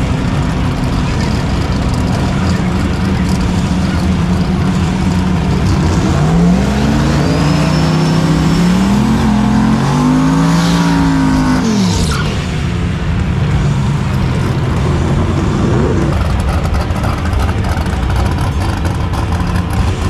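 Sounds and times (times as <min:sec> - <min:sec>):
drag-race cars accelerating: 0:00.0 - 0:20.0.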